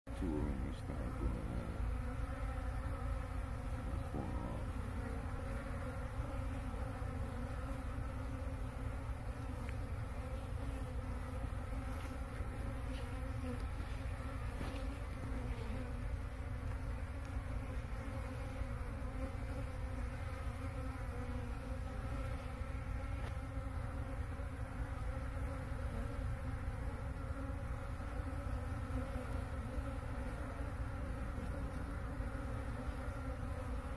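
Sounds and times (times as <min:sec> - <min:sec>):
honeybees buzzing: 0:00.1 - 0:33.9.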